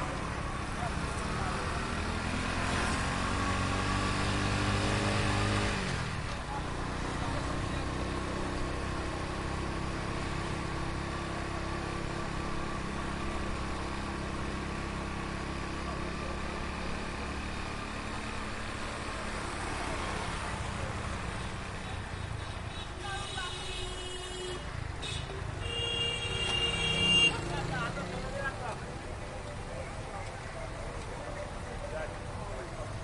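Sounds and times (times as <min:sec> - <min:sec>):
heavy street traffic: 0:00.0 - 0:33.0.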